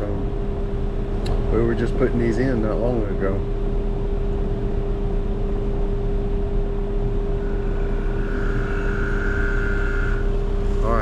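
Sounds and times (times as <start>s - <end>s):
air conditioner humming: 0.0s - 11.0s
faint high whine: 0.0s - 11.0s.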